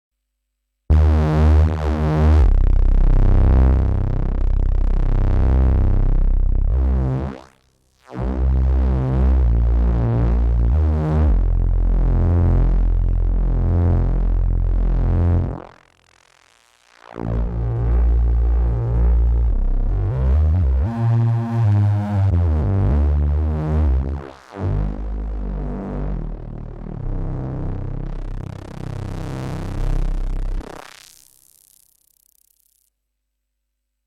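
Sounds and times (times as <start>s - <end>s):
synthesizer sustained bass chords: 0.9s - 16.4s, 17.0s - 31.8s.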